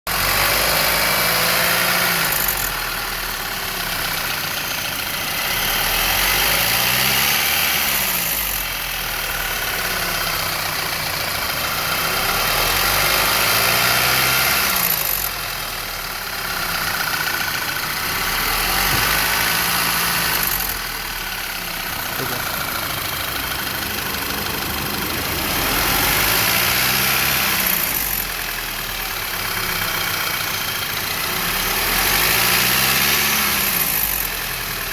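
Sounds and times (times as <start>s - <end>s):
car engine revving: 0.1s - 34.9s
engine ticking: 0.1s - 34.9s.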